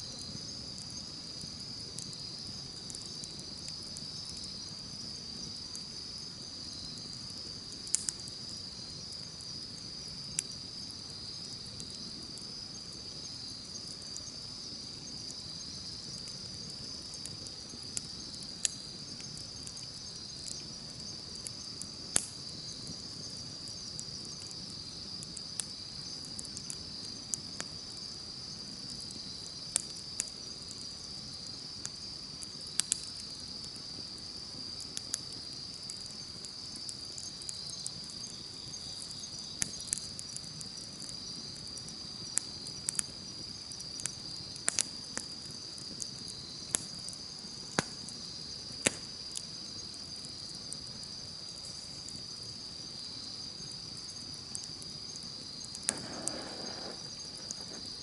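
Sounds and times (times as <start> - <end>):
insects trilling: 0.0 - 58.0
campfire crackling and popping: 0.1 - 58.0.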